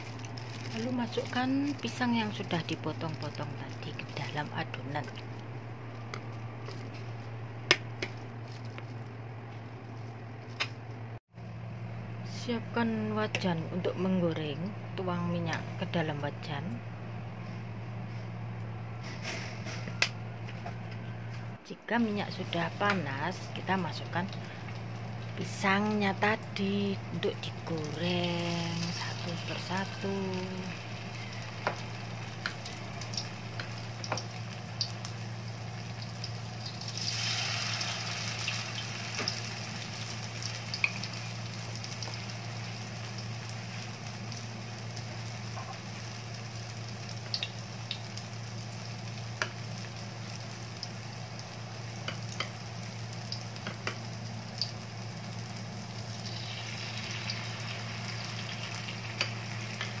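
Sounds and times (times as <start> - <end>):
battered food sizzling in oil: 0.0 - 10.6, 22.3 - 60.0.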